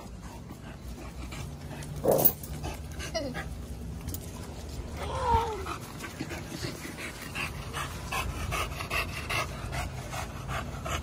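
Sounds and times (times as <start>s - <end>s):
dog panting: 0.0s - 3.7s, 5.6s - 11.0s.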